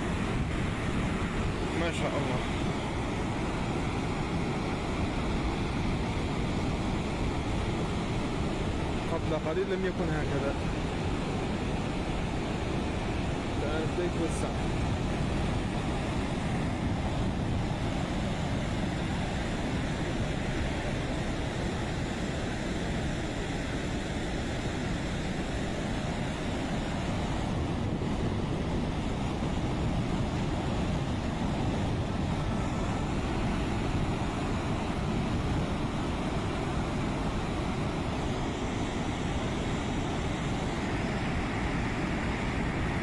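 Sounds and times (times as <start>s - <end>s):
floodwater rushing down a weir: 0.0s - 43.0s.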